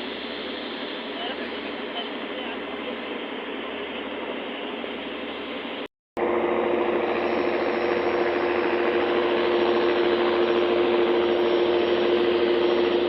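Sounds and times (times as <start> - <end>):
boat engine droning: 0.0 - 13.0
rushing noise: 0.0 - 13.0.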